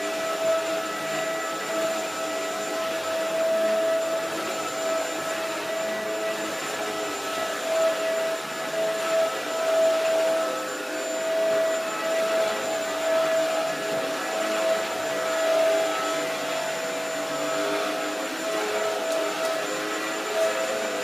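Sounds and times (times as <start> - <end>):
vacuum cleaner on carpet: 0.0 - 21.0.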